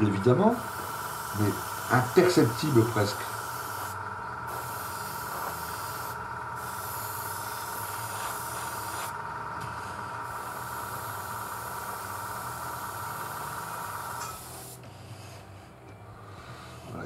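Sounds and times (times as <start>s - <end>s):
compressor whine: 0.0s - 17.0s
airbrush air hiss: 0.5s - 17.0s.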